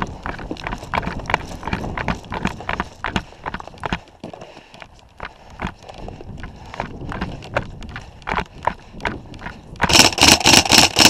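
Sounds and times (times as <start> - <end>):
footsteps walking and running: 0.0 - 10.1.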